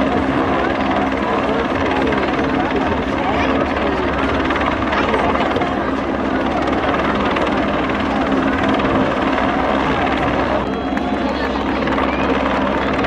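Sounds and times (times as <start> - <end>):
helicopter hovering drone: 0.0 - 13.0.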